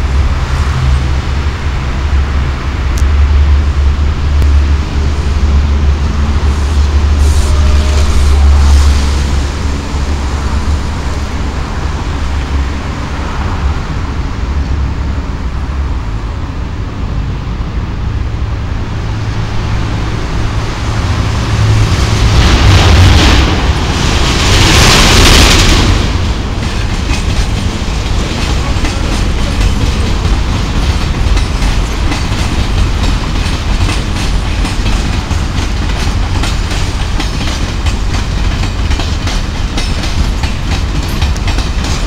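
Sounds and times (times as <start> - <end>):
steady low rumble: 0.0 - 39.6
electric train approaching: 0.0 - 42.0.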